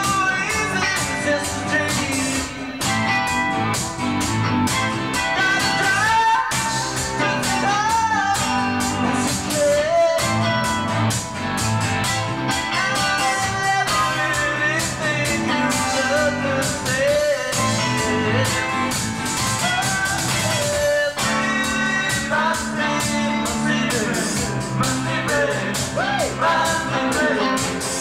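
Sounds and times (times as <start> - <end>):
bending lead guitar melody: 0.0 - 28.0
rock band playing: 0.0 - 28.0
steady drum beat: 0.0 - 28.0.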